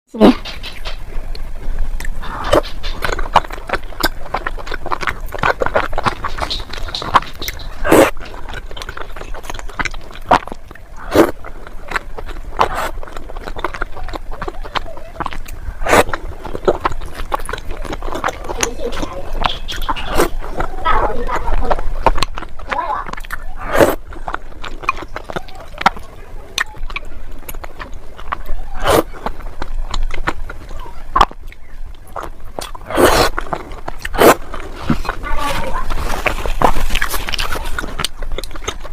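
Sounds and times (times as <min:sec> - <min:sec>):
chewing and crunching: 0:00.2 - 0:38.9.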